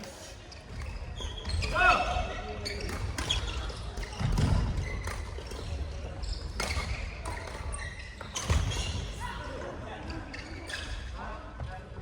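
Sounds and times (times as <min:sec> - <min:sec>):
shoe squeaks on court floor: 0:00.0 - 0:09.2, 0:10.0 - 0:11.2.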